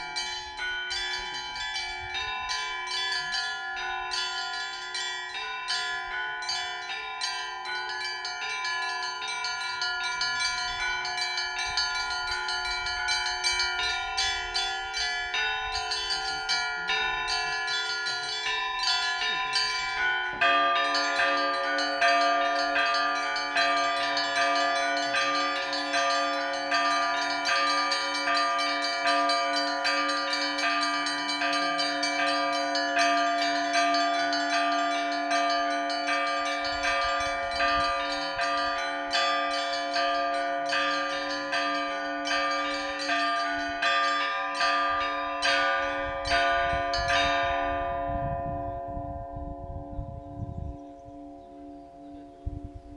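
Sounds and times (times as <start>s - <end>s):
heavy low-pitched bell: 0.0s - 52.9s
large bells sustained tones: 0.0s - 52.9s
small high bells ringing: 0.0s - 52.9s.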